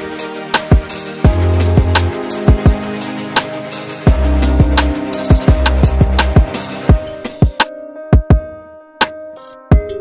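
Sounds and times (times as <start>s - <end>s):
drum beat with kick: 0.6s - 8.5s, 9.4s - 10.0s.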